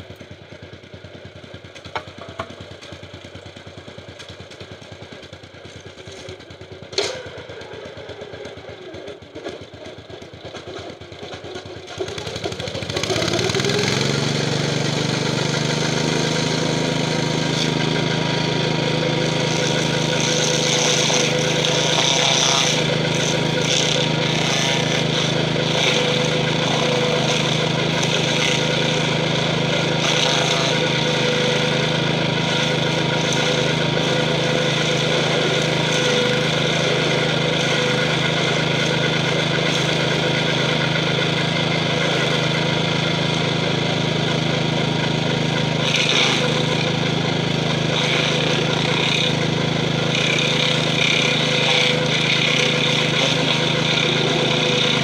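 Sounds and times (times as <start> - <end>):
engine running under load: 0.0 - 55.0
stump grinder grinding wood: 0.0 - 55.0.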